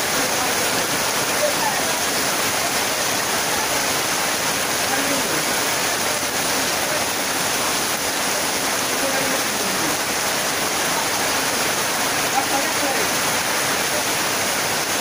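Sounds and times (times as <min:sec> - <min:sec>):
heavy rain on a tin roof: 0:00.0 - 0:15.0.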